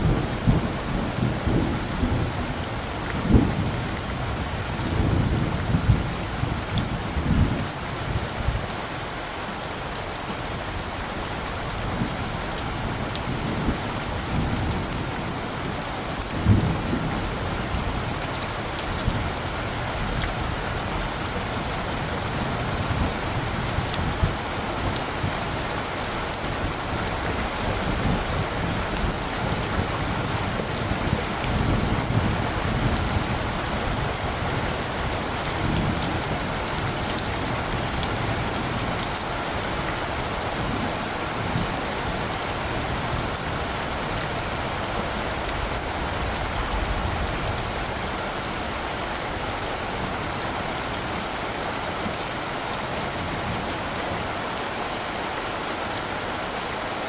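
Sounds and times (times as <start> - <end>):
raindrops ticking on surfaces: 0.0 - 57.0
steady rain falling: 0.0 - 57.0.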